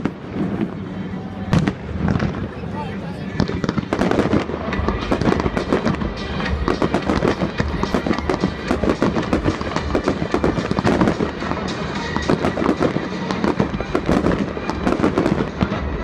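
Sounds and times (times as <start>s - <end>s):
fireworks pops and crackles: 0.0s - 0.9s, 1.5s - 2.6s, 3.3s - 16.0s
music playing: 0.0s - 16.0s.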